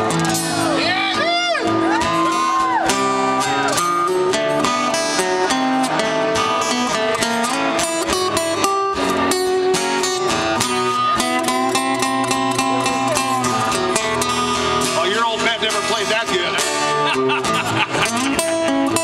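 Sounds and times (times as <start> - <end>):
blues guitar solo: 0.0 - 19.0
strummed backing guitar: 0.0 - 19.0.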